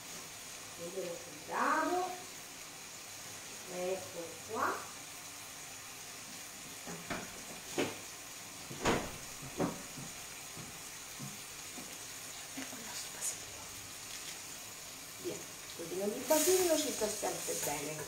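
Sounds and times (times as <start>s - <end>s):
sauce simmering with soft sizzle: 0.0s - 18.0s.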